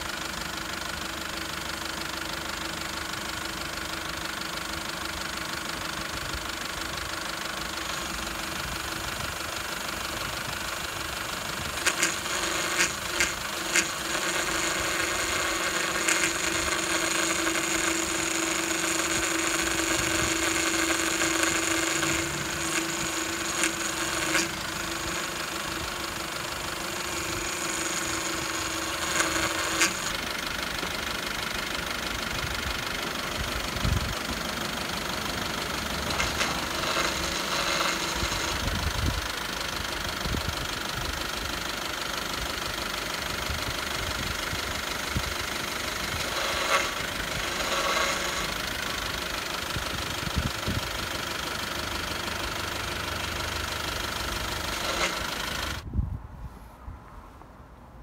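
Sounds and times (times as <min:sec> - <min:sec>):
car engine idling: 0:00.0 - 0:55.9
power steering pump whine: 0:00.0 - 0:56.0.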